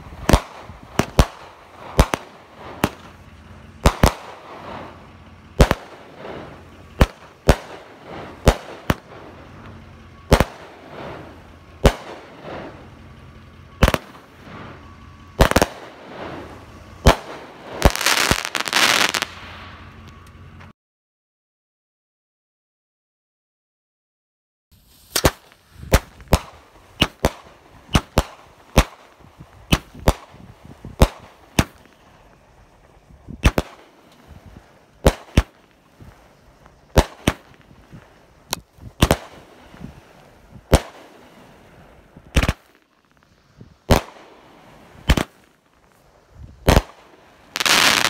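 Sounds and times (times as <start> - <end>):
firework shells bursting: 0.1 - 13.1, 13.7 - 20.3, 24.9 - 48.0.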